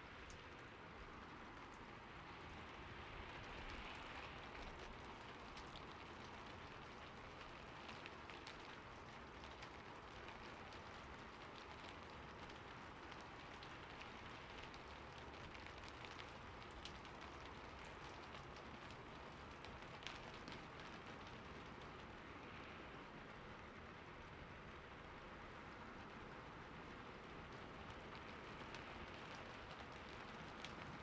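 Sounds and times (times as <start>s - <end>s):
rain falling on a roof: 0.0s - 31.0s.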